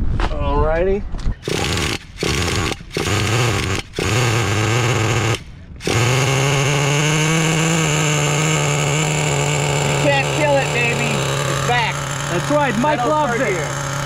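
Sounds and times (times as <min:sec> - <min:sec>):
engine starter spinning: 0:01.4 - 0:14.0
model engine idling: 0:01.4 - 0:14.0.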